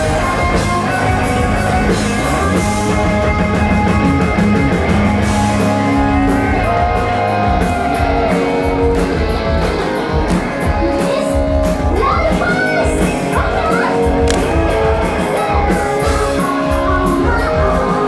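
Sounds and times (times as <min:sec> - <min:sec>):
pop-rock band music: 0:00.0 - 0:18.0.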